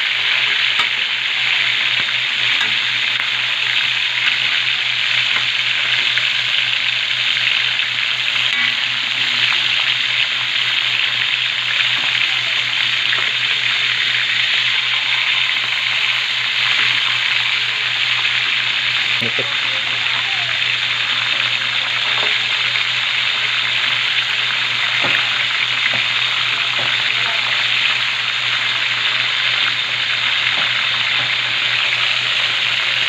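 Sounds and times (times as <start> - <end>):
fish frying in hot oil: 0.0 - 33.0.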